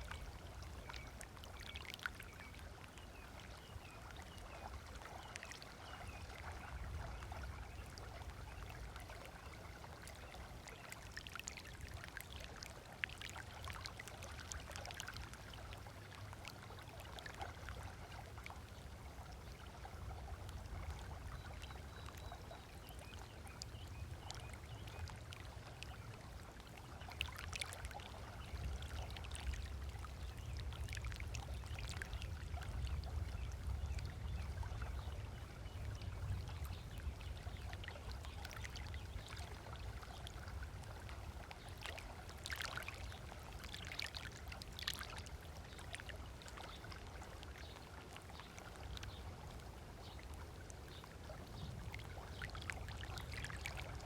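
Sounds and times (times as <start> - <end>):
small waves lapping on shore: 0.0 - 54.0.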